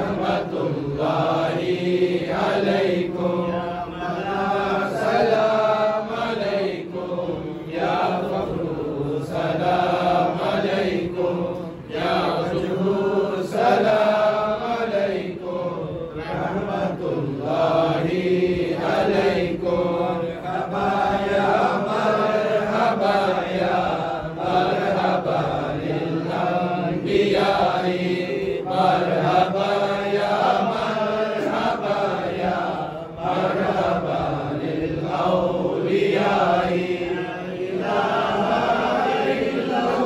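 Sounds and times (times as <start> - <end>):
men chanting: 0.0 - 40.0.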